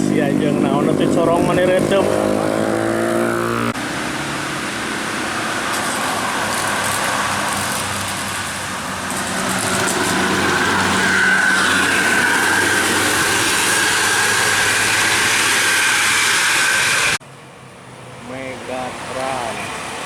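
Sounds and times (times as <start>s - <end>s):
high whine: 0.0s - 17.2s
bus engine and road noise: 0.0s - 20.0s.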